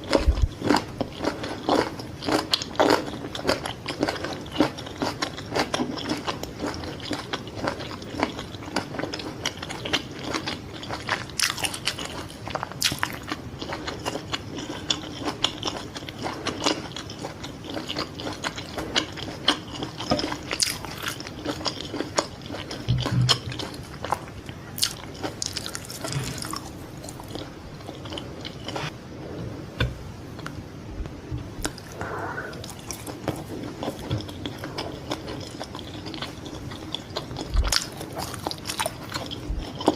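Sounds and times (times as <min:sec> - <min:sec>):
biting and chewing fried food: 0:00.0 - 0:28.9, 0:32.6 - 0:39.9.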